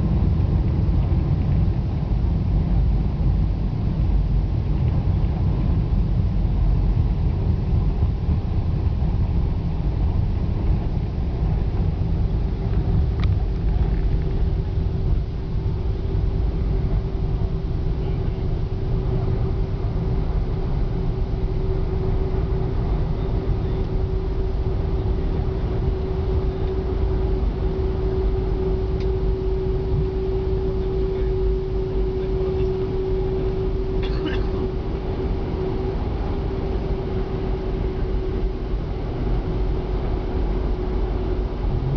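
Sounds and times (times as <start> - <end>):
airliner cabin engine rumble: 0.0 - 41.9
faint steady hum: 0.0 - 41.9.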